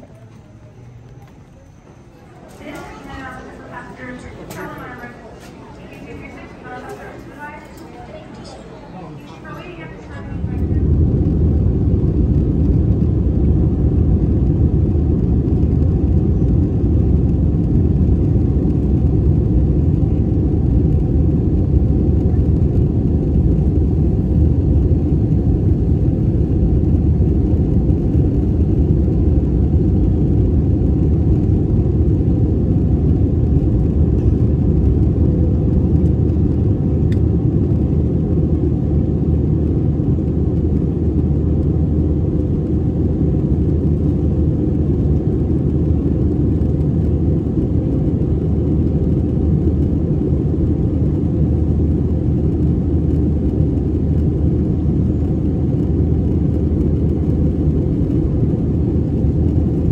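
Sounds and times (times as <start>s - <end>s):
jet engine cabin rumble: 0.0s - 59.9s.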